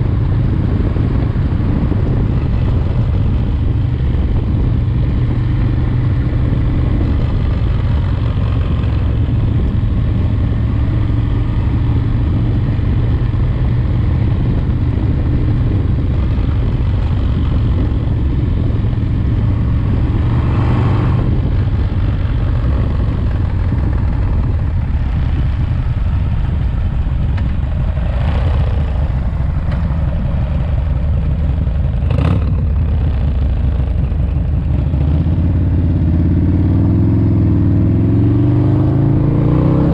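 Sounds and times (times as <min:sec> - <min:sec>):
motorcycle engine running: 0:00.0 - 0:39.9
rushes of noise: 0:00.0 - 0:39.9.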